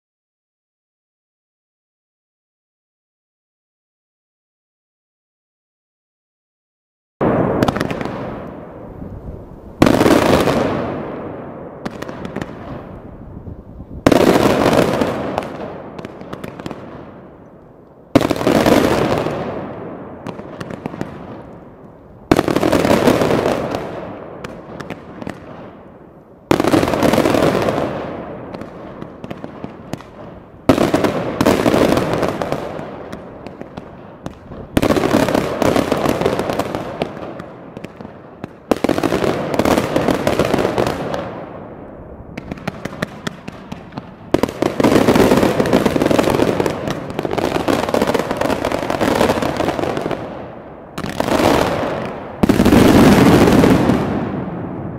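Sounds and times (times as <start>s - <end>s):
fireworks bursting: 7.2s - 54.9s
fireworks crackling: 7.2s - 54.9s.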